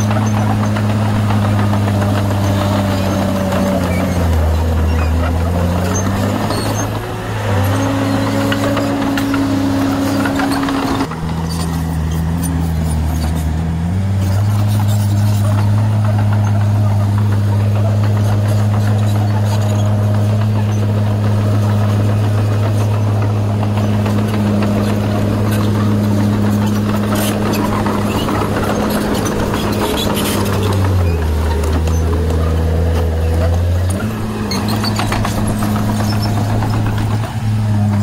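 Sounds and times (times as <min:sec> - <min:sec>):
bulldozer diesel engine under load: 0:00.0 - 0:38.0.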